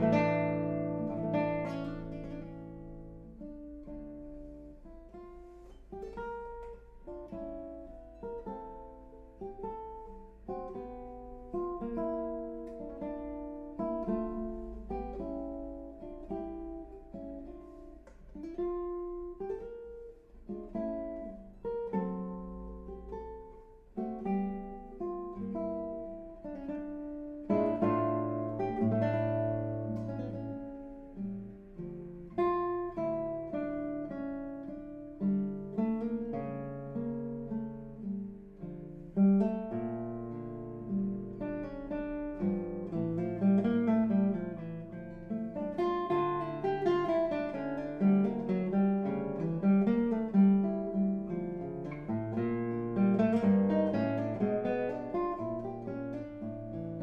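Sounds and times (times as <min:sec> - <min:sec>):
classical guitar playing: 0:00.0 - 0:57.0.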